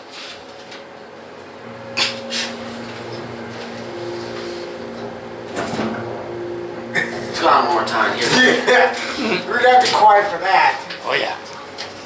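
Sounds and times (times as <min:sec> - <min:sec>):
elevator machine hum: 0:00.6 - 0:12.0.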